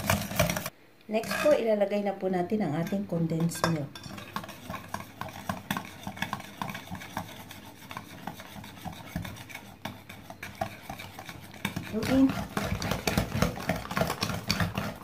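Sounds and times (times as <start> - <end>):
whisk wires clicking on bowl: 0.0 - 1.5, 2.8 - 15.0
whisk scraping in a bowl: 0.0 - 1.6, 2.8 - 15.0.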